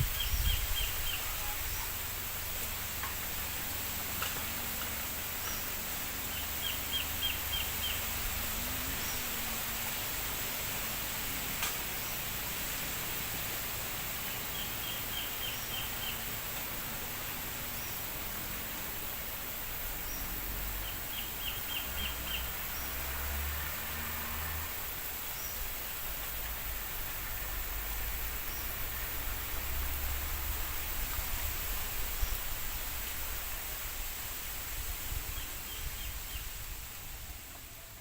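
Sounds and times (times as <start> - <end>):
bamboo leaves rustling in wind: 0.0 - 38.0.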